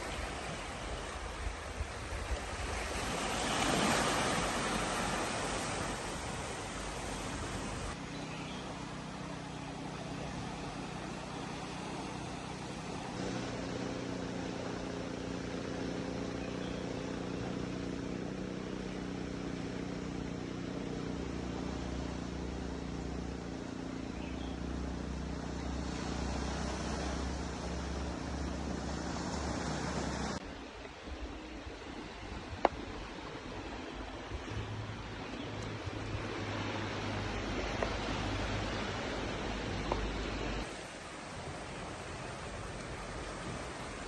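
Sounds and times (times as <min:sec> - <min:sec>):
road or wind noise hiss: 0:00.0 - 0:44.0
vehicle engine running: 0:04.2 - 0:30.4, 0:32.6 - 0:44.0.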